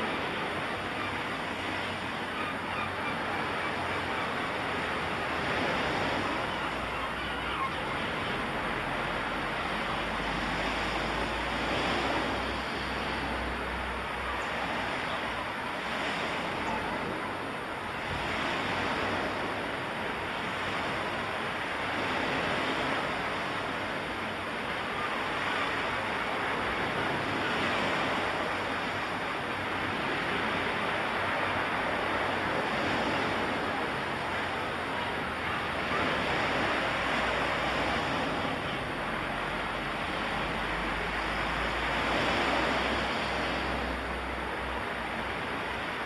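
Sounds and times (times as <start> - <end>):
waves washing onto shore: 0.0 - 46.0.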